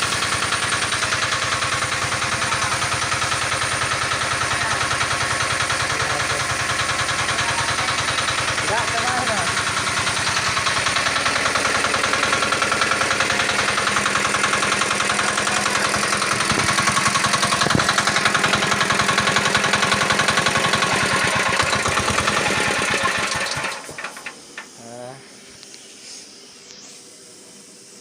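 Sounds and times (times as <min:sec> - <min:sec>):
pressure washer running: 0:00.0 - 0:24.8.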